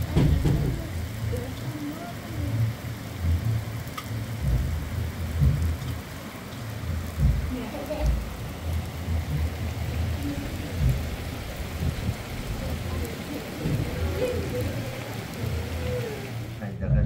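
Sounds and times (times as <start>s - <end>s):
heavy rain and hail: 0.0s - 16.8s
low rumbles: 0.0s - 17.0s.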